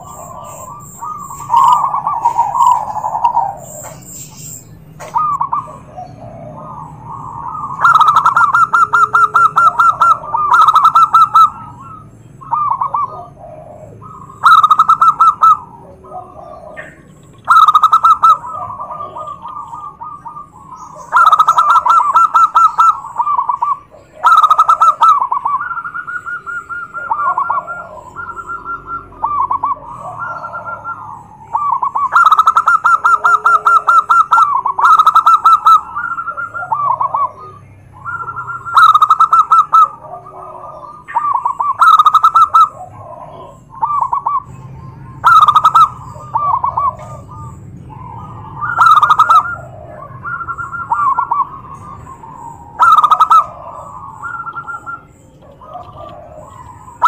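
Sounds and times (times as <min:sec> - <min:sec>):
dove trilled cooing: 0:00.0 - 0:57.0.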